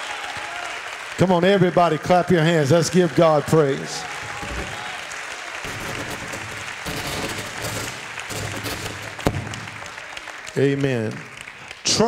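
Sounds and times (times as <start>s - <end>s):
congregation clapping: 0.0s - 12.0s.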